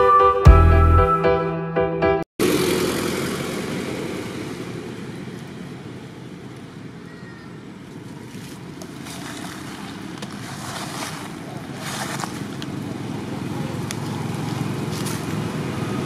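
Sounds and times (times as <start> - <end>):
outdoor background noise: 2.4 - 16.0.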